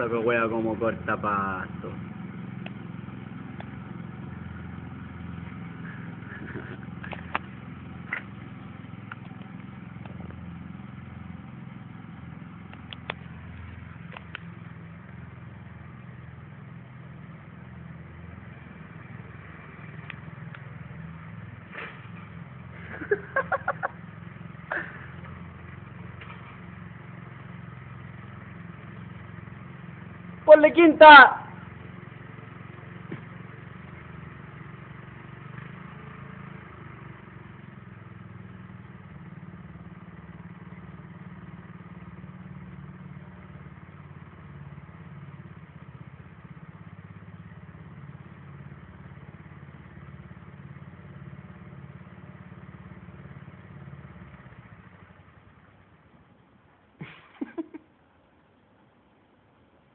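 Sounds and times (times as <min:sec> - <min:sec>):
lawn tractor engine mowing: 0:00.0 - 0:59.9.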